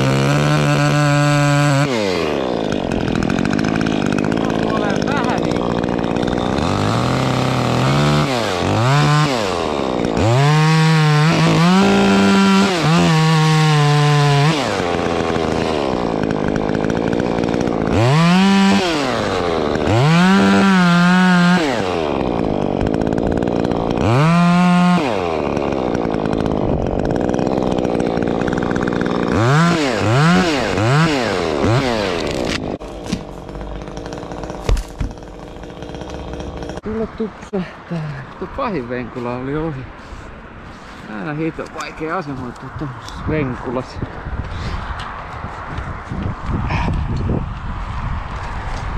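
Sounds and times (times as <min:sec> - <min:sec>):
chainsaw engine revving and idling: 0:00.0 - 0:43.9.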